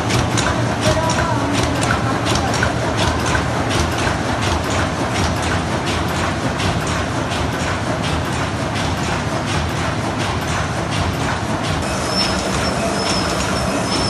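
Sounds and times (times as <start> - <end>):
machine low hum: 0.0 - 14.0
machine rhythmic clatter: 0.0 - 14.0.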